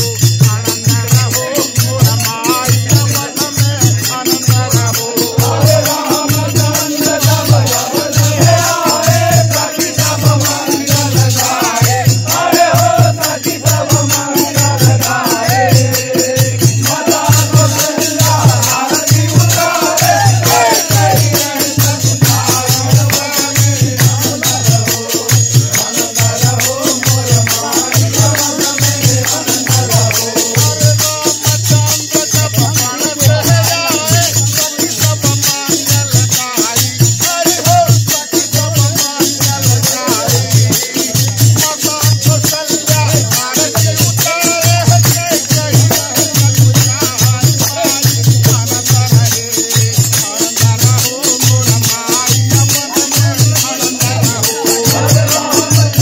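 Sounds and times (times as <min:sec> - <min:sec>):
men singing together: 0:00.0 - 0:56.0
steady drum beat: 0:00.0 - 0:56.0.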